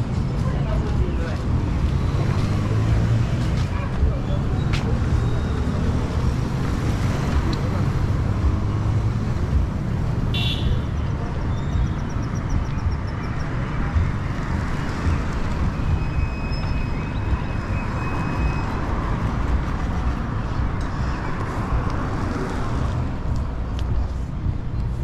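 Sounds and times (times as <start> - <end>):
motorcycles: 0.0 - 25.0
road traffic rumble: 0.0 - 25.0.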